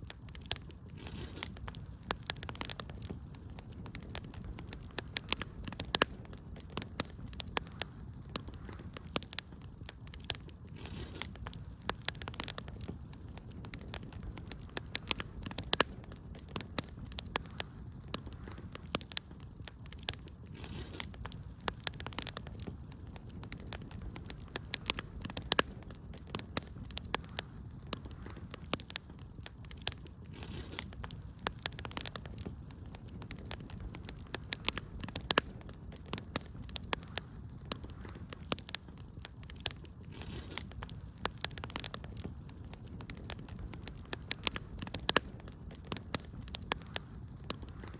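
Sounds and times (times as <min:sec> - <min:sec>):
low rumble of flames: 0:00.0 - 0:47.9
wood fire pops and snaps: 0:00.0 - 0:47.9.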